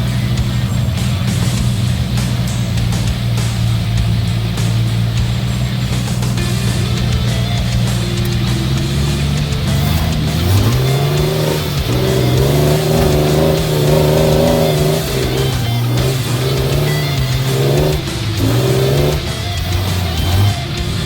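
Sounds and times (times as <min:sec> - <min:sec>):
background music: 0:00.0 - 0:21.0
car engine revving: 0:00.0 - 0:21.0.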